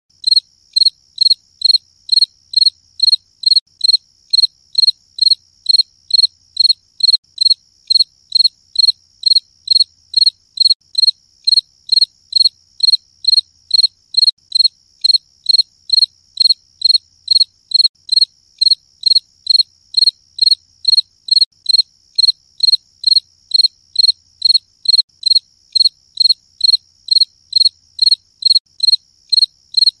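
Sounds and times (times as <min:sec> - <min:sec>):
cricket chirping: 0:00.2 - 0:30.0.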